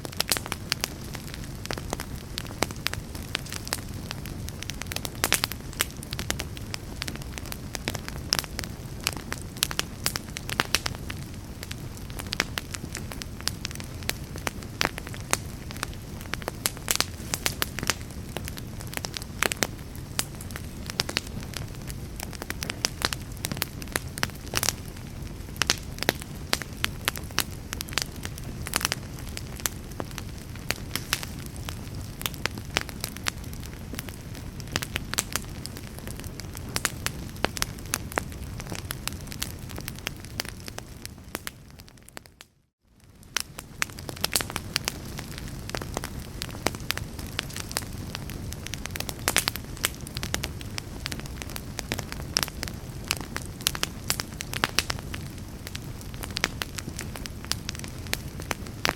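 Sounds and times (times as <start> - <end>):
low rush of flames: 0.0 - 42.2, 43.0 - 58.9
fire crackling and popping: 0.0 - 58.9.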